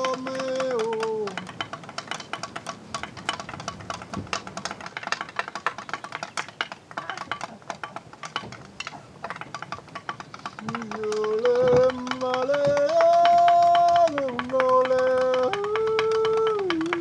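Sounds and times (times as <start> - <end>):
fingers tapping on wooden floor: 0.0 - 17.0.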